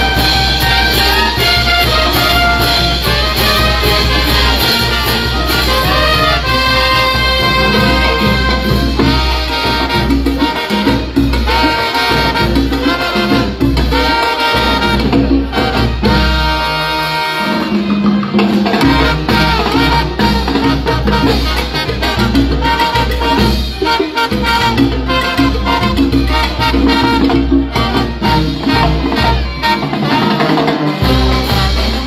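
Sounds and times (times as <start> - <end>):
brass band playing: 0.0 - 32.0
congas: 0.0 - 32.0.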